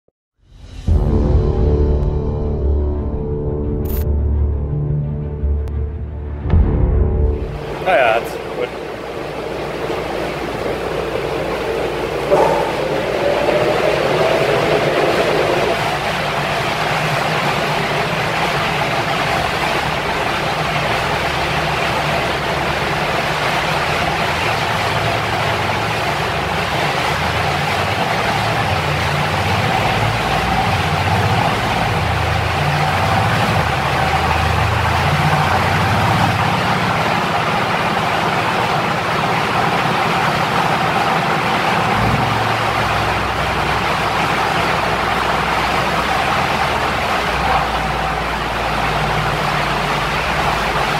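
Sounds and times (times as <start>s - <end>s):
car engine idling: 7.4s - 50.9s
constant rushing noise: 7.4s - 50.9s.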